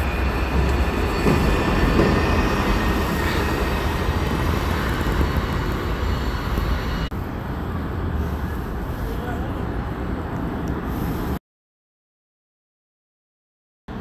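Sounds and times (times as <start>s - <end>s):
street traffic rumble: 0.0s - 11.4s.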